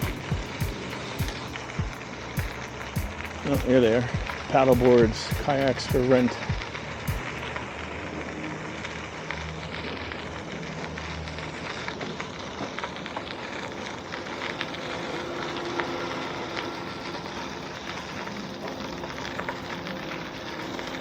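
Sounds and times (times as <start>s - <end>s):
bike tyres rolling on path: 0.0s - 21.0s.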